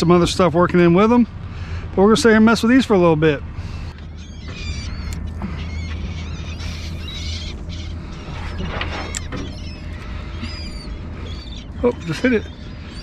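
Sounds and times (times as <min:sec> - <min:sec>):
low wind rumble: 0:00.0 - 0:13.0
seabirds calling: 0:00.0 - 0:13.0.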